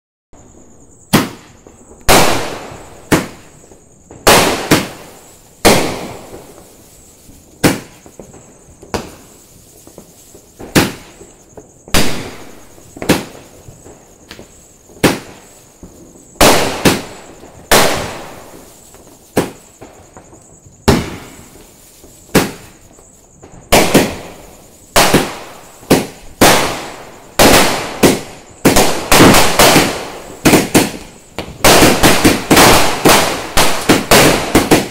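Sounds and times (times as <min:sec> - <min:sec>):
fireworks bangs: 0:00.4 - 0:34.9.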